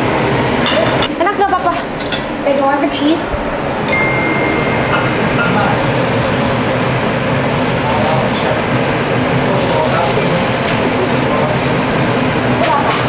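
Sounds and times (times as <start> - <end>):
cooking hum and hiss: 0.0 - 13.0.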